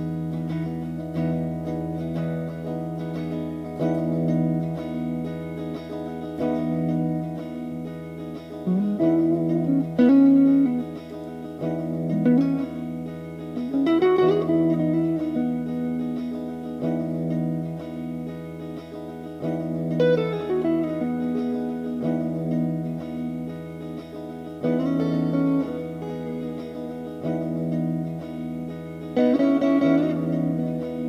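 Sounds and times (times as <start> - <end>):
electric guitar chords and bends: 0.0 - 31.0.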